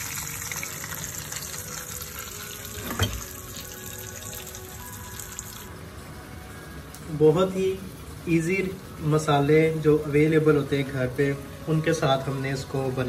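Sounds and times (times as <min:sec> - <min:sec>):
hot oil sizzling: 0:00.0 - 0:05.8, 0:07.2 - 0:13.0.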